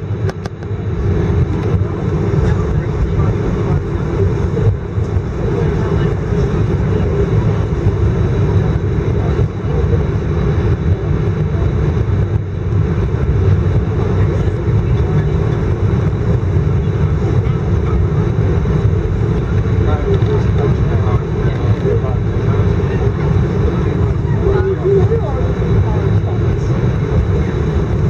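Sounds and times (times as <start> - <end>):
airliner engines and air-conditioning: 0.0 - 28.0.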